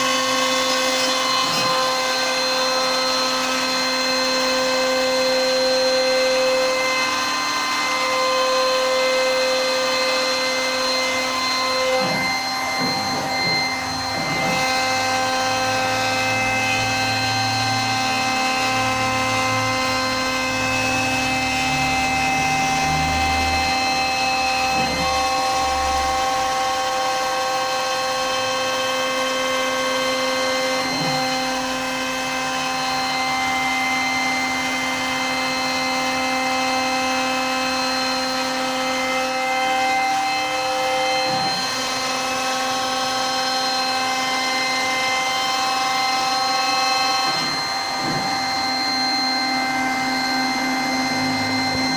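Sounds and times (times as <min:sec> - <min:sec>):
router spindle whining: 0:00.0 - 0:51.9.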